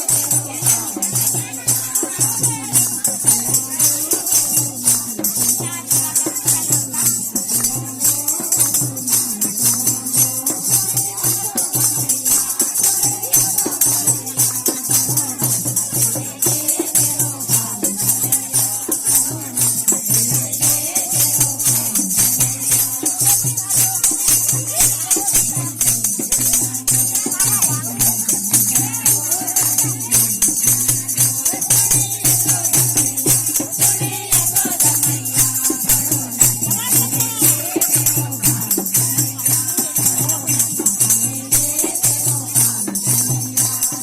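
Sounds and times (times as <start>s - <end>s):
jingling hand percussion: 0.0s - 44.0s.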